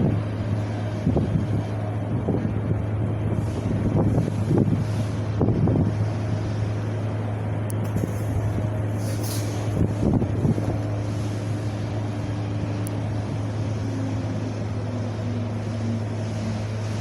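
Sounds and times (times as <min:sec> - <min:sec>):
wind blowing with low rumble: 0:00.0 - 0:17.0.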